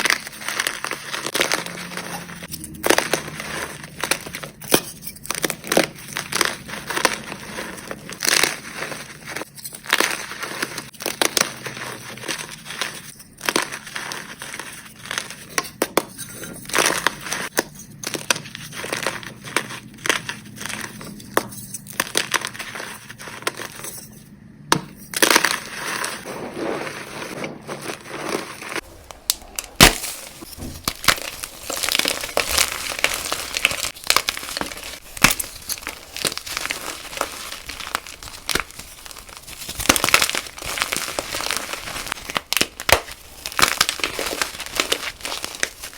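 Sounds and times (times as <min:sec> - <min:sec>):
chalk blocks crunching: 0:00.0 - 0:45.9.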